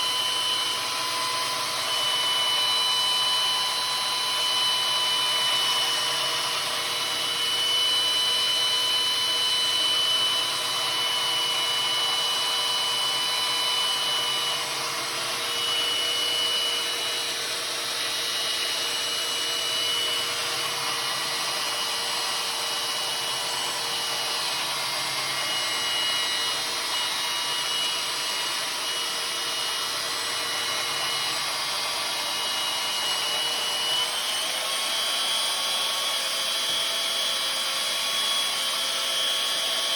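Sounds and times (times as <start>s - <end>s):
power tool grinding steel: 0.0s - 39.9s.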